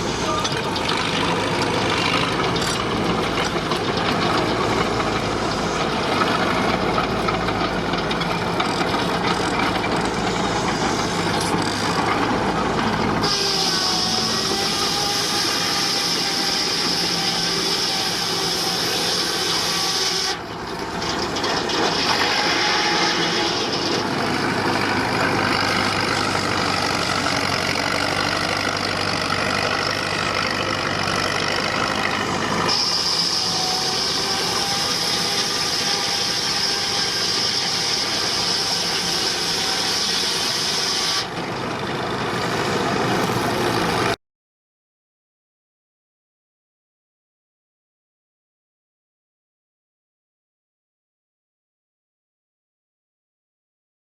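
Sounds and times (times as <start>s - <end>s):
steam engine running: 0.0s - 44.1s
saw cutting log: 0.0s - 44.2s.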